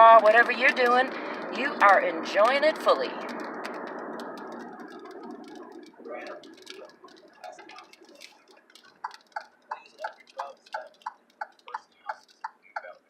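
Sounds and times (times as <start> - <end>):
turn signal ticking: 0.0 - 13.0.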